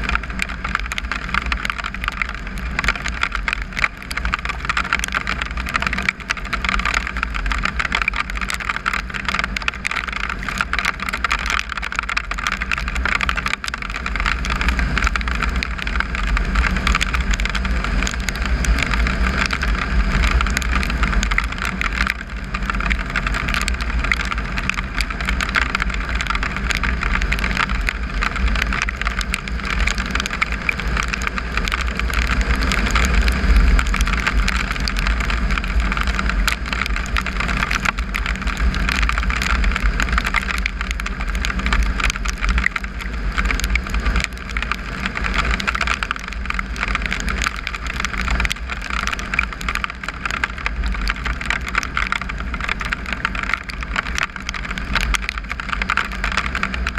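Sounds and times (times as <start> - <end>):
wind rumble on microphone: 0.0 - 56.9.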